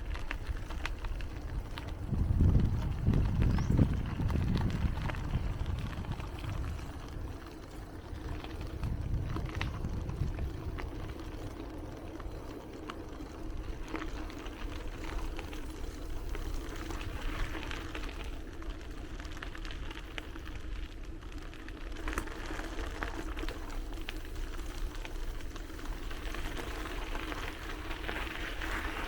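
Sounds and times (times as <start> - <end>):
bicycle tyre noise on path: 0.0 - 29.0
wind rumble on microphone: 0.0 - 29.0.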